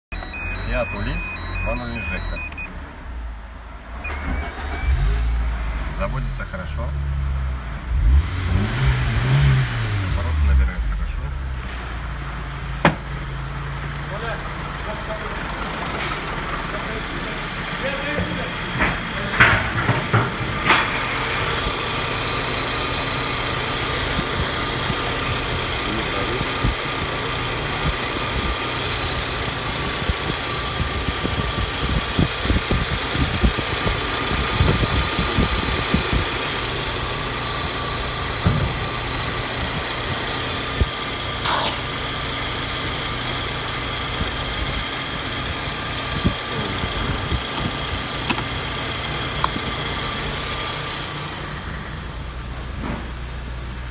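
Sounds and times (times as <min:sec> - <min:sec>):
car engine idling: 0:10.6 - 0:53.9.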